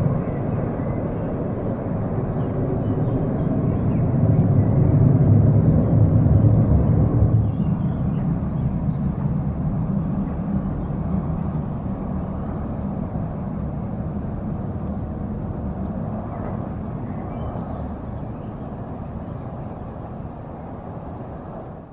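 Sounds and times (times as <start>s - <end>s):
jet engines deep rumble: 0.0s - 21.9s.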